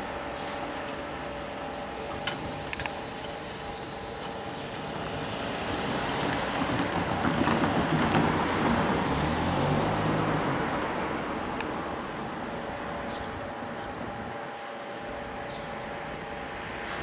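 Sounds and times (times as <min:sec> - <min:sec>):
passing train rumble: 0:00.0 - 0:17.0.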